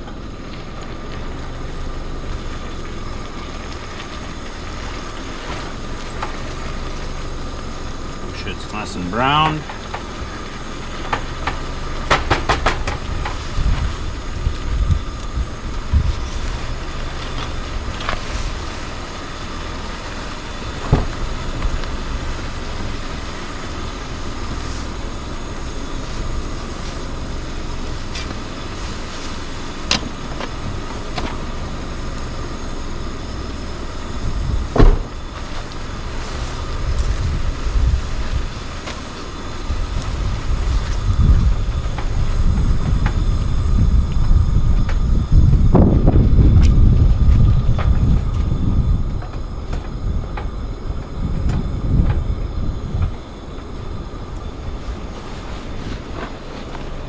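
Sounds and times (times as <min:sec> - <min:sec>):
gas burner rushing: 0:00.0 - 0:57.0.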